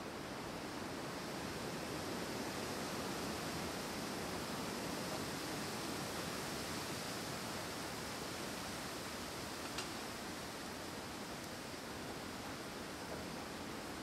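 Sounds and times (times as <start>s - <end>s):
wind rushing through trees: 0.0s - 14.0s.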